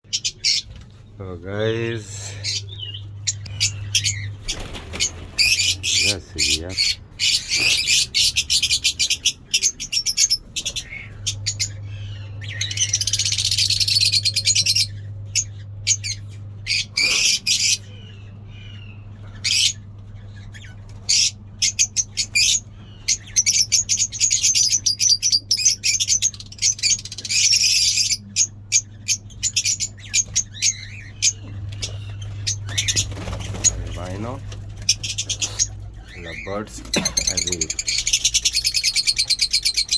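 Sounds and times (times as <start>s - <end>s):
birds chattering shrilly: 0.0s - 39.9s.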